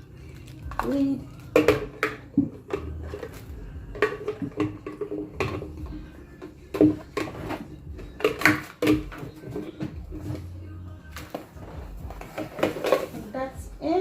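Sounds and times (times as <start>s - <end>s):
plastic cups and lids clattering: 0.2s - 13.5s.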